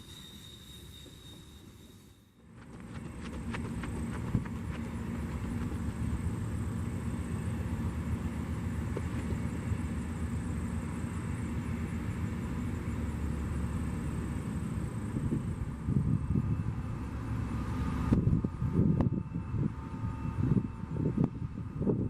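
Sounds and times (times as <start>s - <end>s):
diesel train rumbling: 0.0s - 22.0s.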